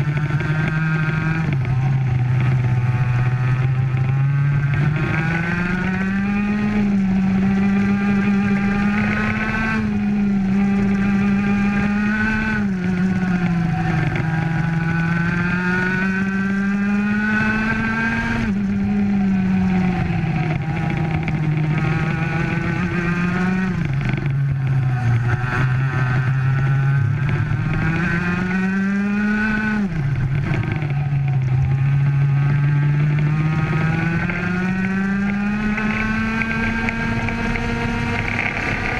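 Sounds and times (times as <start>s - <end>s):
kart engine at full throttle: 0.0s - 38.9s.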